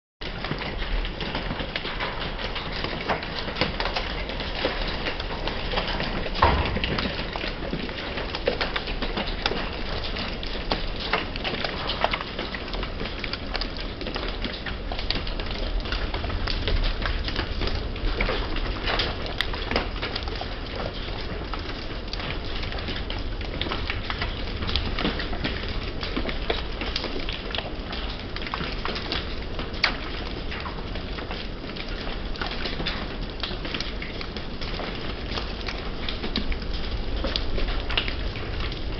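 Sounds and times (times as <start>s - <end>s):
hail and rain on wooden deck: 0.2s - 38.9s.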